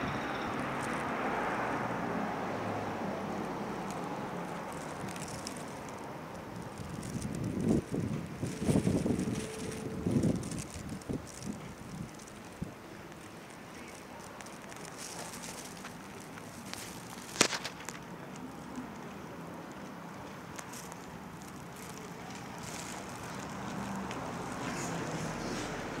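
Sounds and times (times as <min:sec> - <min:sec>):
outdoor street background noise: 0:00.0 - 0:26.0
small clicks and crackles: 0:03.4 - 0:26.0.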